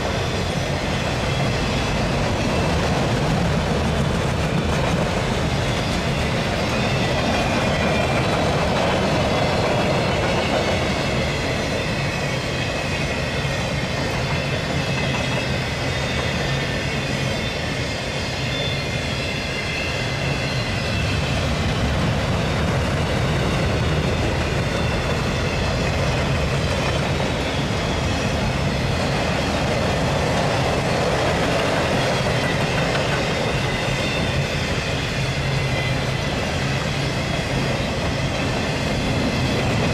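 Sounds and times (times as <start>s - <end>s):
steel wheels rumbling on rails: 0.0s - 39.9s.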